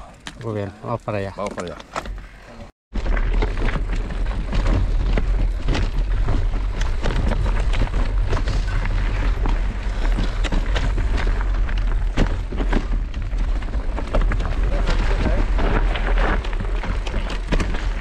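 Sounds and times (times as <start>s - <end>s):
bike rattling on rocks: 3.0s - 18.0s.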